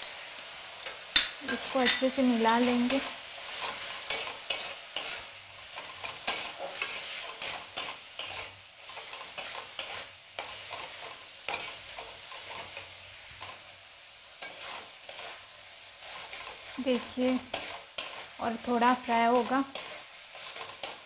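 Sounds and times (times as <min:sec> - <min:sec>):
light sizzle of frying: 0:00.0 - 0:21.0
spatula scraping metal pan: 0:01.2 - 0:13.6, 0:14.4 - 0:21.0.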